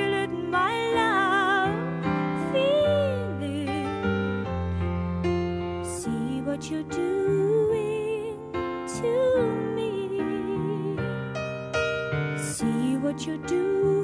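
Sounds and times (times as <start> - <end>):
slow song with keyboard chords: 0.0 - 14.0.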